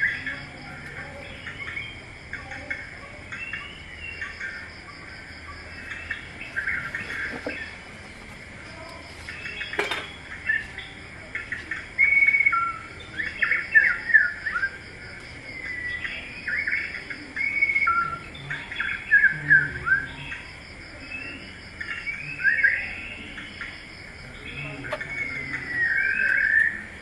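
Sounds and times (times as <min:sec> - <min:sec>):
faint high insect drone: 0:00.0 - 0:27.0
small birds chirping: 0:00.0 - 0:27.0.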